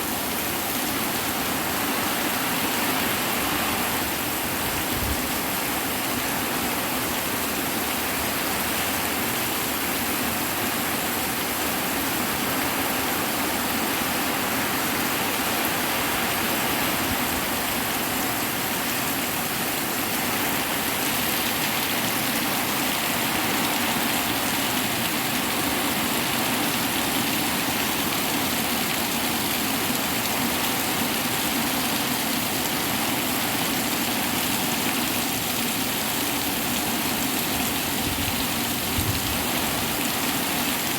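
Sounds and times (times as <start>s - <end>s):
hard rain falling: 0.0s - 40.9s.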